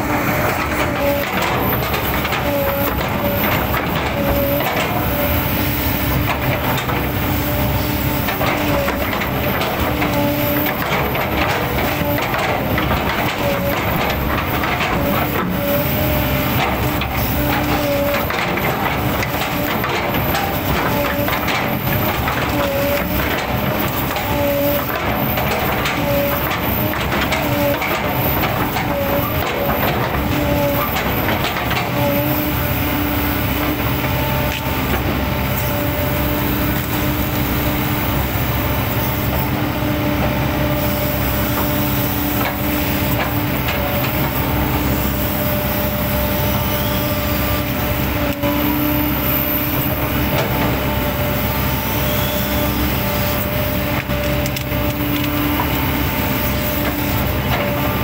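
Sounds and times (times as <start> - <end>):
excavator diesel engine: 0.0 - 58.0
hydraulic whine: 0.0 - 58.0.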